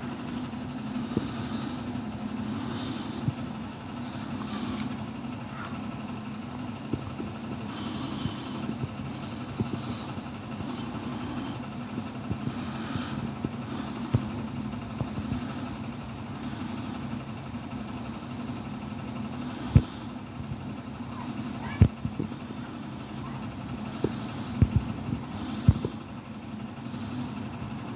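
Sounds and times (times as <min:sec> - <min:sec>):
low mechanical hum: 0:00.0 - 0:27.9.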